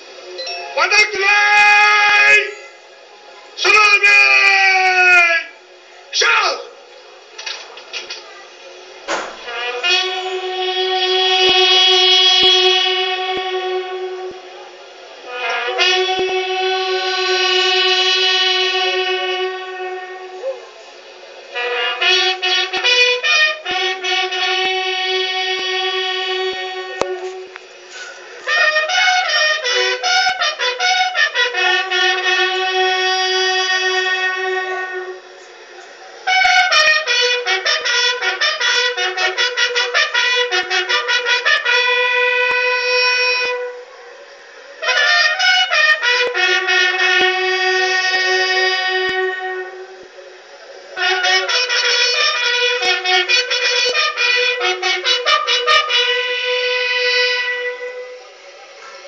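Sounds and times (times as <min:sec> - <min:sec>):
bugles playing in unison: 0:00.0 - 0:03.0, 0:03.6 - 0:06.8, 0:09.0 - 0:50.2, 0:50.8 - 0:58.4.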